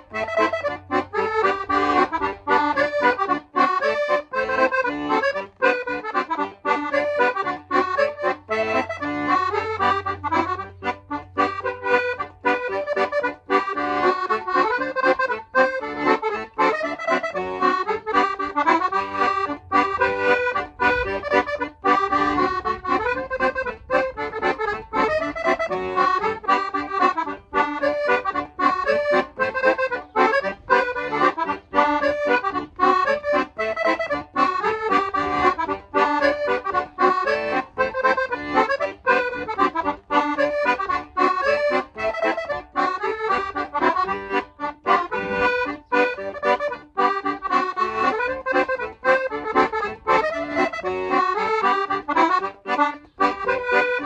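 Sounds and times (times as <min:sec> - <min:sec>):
accordion playing dance tune: 0:00.0 - 0:54.0.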